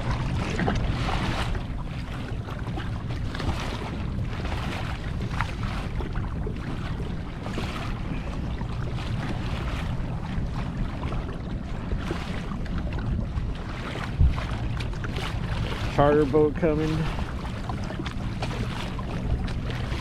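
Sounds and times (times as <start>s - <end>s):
water sloshing against kayak hull: 0.0s - 20.0s
wind buffeting microphone: 0.0s - 20.0s.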